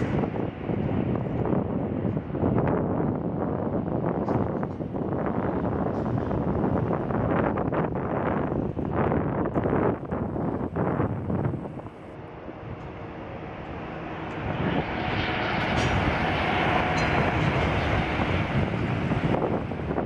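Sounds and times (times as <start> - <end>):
turboprop engines droning: 0.0 - 20.0
wind buffeting microphone: 0.0 - 20.0.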